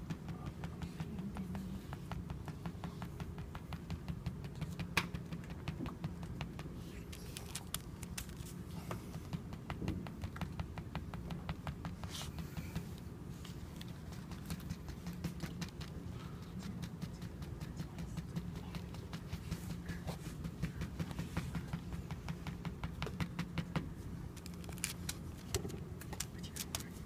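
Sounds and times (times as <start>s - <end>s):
ink pad tapping on paper: 0.0s - 6.8s, 7.4s - 13.1s, 13.8s - 27.0s.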